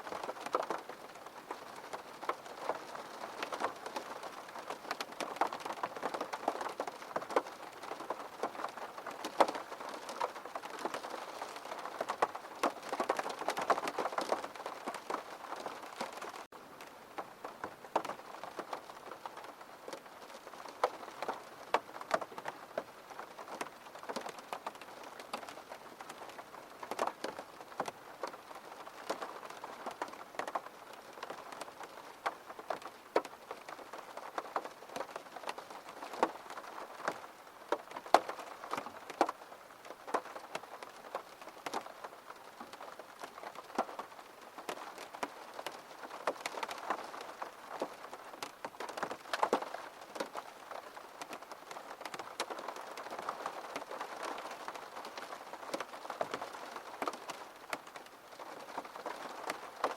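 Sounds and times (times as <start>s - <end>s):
raindrops ticking on a surface: 0.0s - 59.9s.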